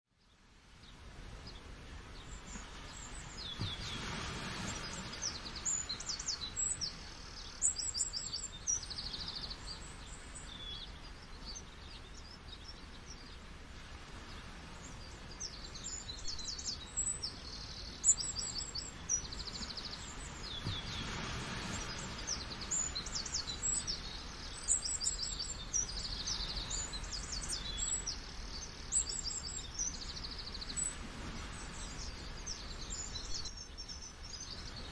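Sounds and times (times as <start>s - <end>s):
small birds chirping: 0.1s - 34.9s
rushing falling water: 0.6s - 34.9s.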